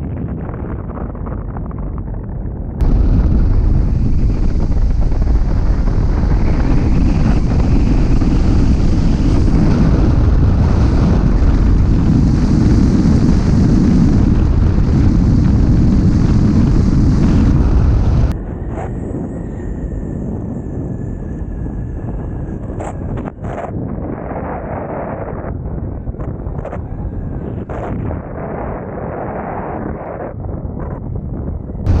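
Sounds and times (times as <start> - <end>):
wind rushing over microphone: 0.0 - 32.0.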